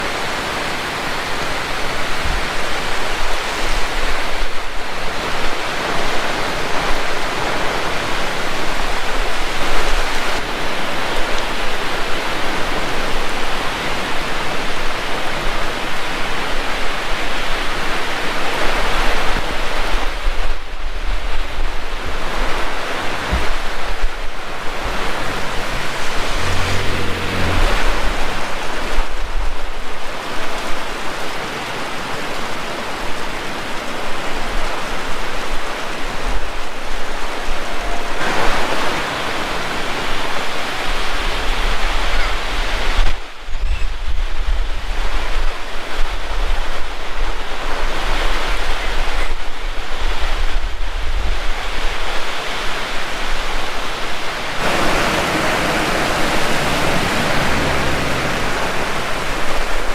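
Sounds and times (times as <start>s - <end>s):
heavy rain pouring: 0.0s - 43.4s, 44.7s - 59.9s
wind: 0.0s - 59.9s.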